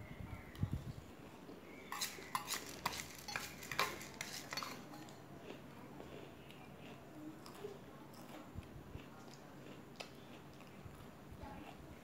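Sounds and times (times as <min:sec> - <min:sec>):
chewing puffed rice: 0:00.6 - 0:12.0.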